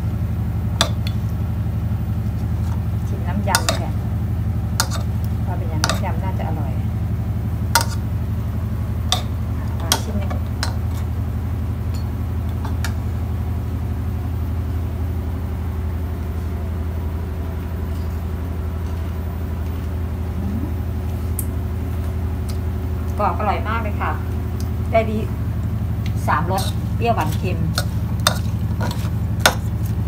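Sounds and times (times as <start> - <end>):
loud low machine hum: 0.0 - 30.0.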